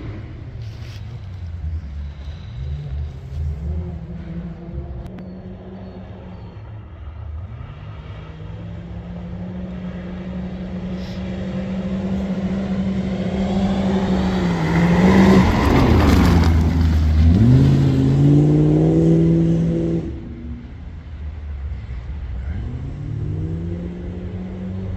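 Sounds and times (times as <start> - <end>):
racing car engine passing: 0.0 - 24.9.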